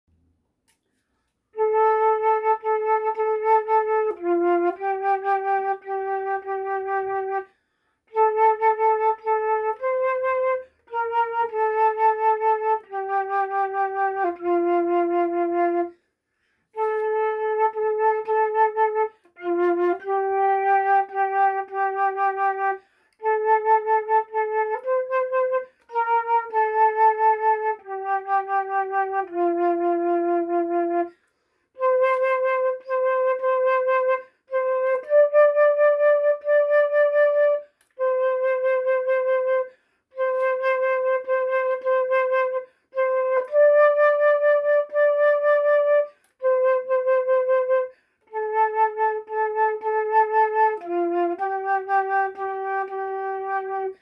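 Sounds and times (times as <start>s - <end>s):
solo flute melody: 1.5s - 54.0s.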